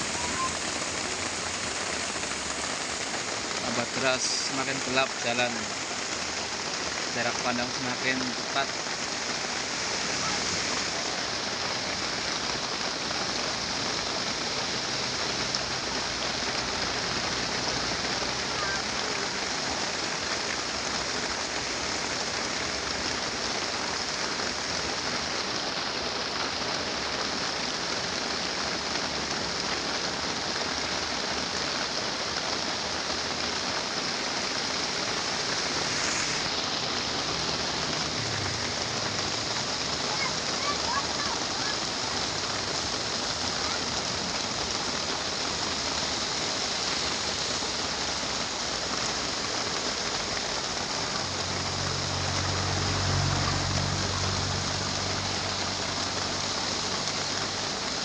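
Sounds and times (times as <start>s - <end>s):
heavy rain on a truck: 0.0s - 58.0s.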